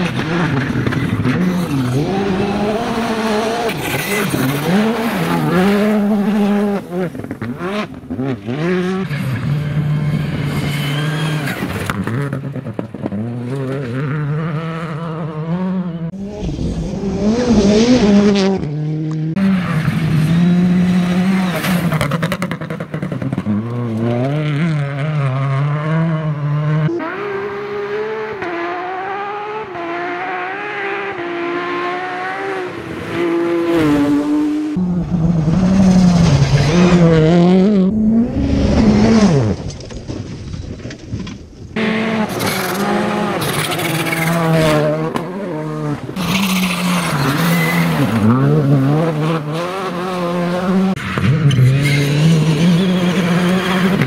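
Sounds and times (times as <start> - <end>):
rally car engines revving: 0.0 - 40.2, 41.2 - 54.0.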